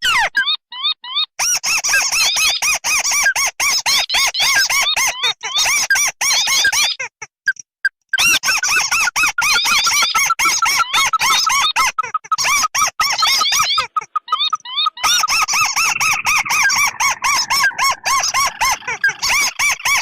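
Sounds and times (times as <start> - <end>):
recorded crake calls: 0.0 - 20.0.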